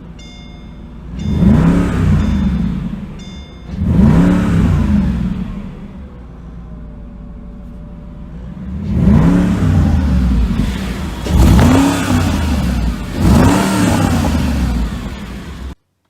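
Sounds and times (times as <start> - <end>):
sports car engine idling: 0.0 - 15.8
sports car engine revving: 1.1 - 15.8.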